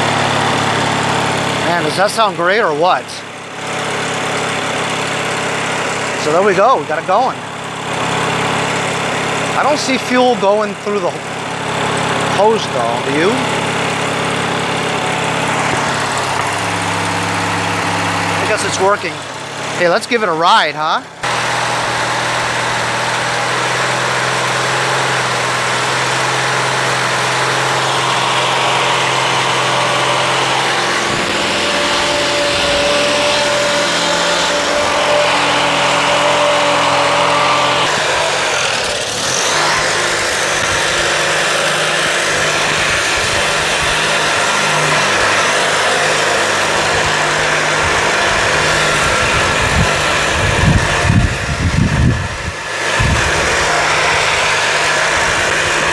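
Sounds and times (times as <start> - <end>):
lawn tractor engine running: 0.0 - 55.9.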